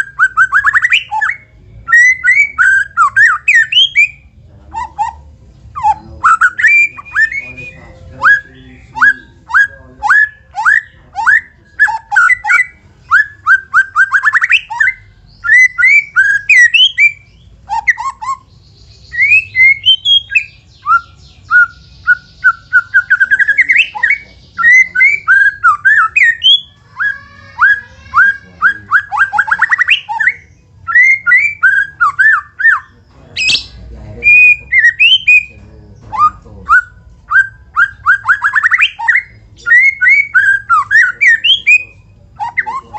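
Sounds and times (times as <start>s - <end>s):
songbird singing trills: 0.0s - 42.9s.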